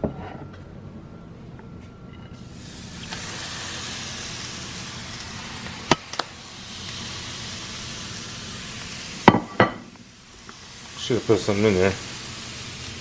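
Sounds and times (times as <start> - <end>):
food sizzling in a frying pan: 2.4 - 13.0.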